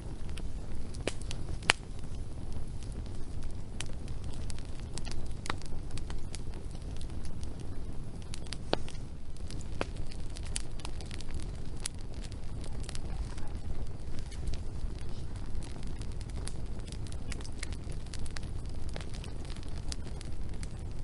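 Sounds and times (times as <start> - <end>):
low steady rumble: 0.0 - 21.0
wood fire crackling and popping: 0.0 - 21.0.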